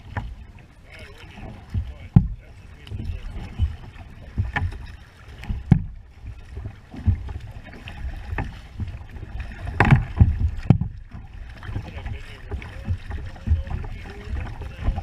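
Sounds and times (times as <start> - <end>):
low rush of water and wind: 0.0 - 15.0
paddle splashing in water: 0.0 - 15.0.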